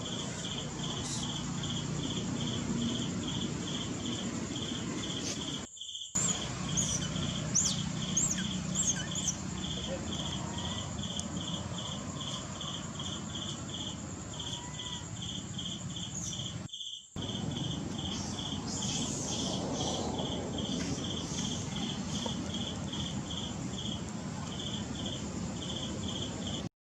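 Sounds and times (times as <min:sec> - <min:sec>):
background hiss: 0:00.0 - 0:26.7
insect chirping: 0:00.0 - 0:26.7.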